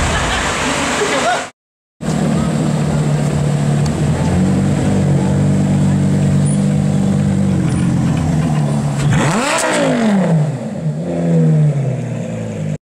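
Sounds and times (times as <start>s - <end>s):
sports car engine revving: 2.0s - 12.8s.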